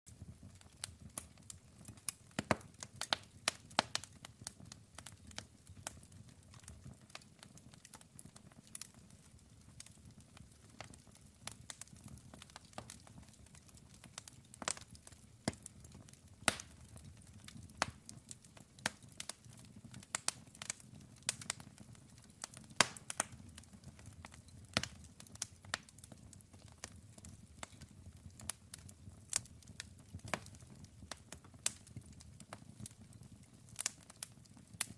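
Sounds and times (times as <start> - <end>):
campfire crackling and popping: 0.1 - 34.9.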